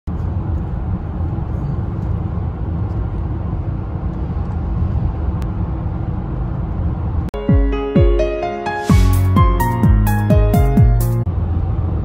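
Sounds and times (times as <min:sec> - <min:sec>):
car road and engine rumble: 0:00.1 - 0:12.0.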